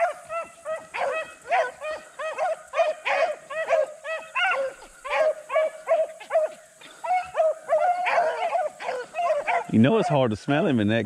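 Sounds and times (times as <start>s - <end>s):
hounds baying: 0.0s - 10.8s.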